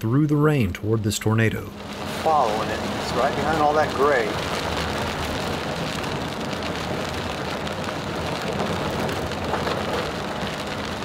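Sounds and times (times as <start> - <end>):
car rumbling on gravel road: 0.8 - 11.0
heavy rain on car: 1.3 - 11.0.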